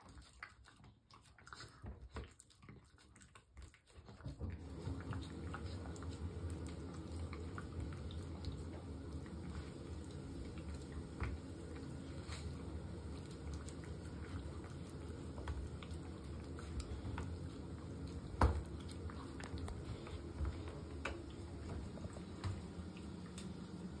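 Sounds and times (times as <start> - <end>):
dog lapping: 0.0 - 24.0.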